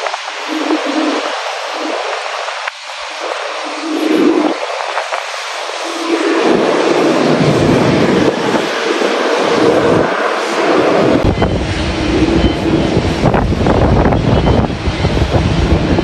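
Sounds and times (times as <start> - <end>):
jet engines rumbling: 0.0 - 16.0
wind gusting on microphone: 0.0 - 16.0.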